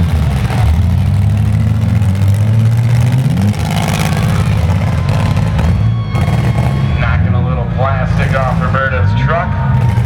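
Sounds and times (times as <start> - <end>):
vehicle engines revving hard: 0.0 - 10.0.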